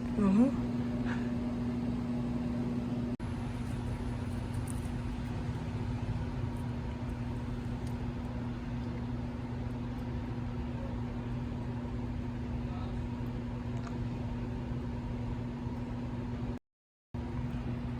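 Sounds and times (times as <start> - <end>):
low steady hum: 0.0 - 16.6, 17.2 - 17.9.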